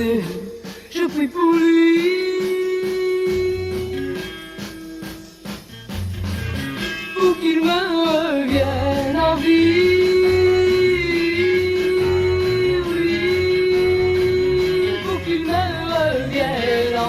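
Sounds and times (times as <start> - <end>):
woman singing pop song: 0.0 - 4.7, 7.1 - 17.0
band accompaniment with bass: 0.0 - 17.0.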